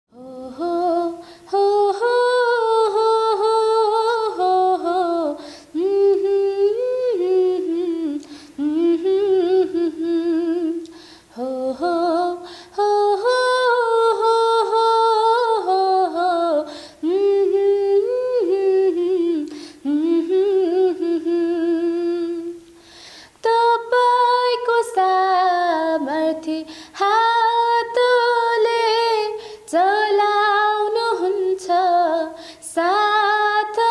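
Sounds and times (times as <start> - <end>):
woman singing unaccompanied: 0.1 - 22.7, 23.4 - 33.9.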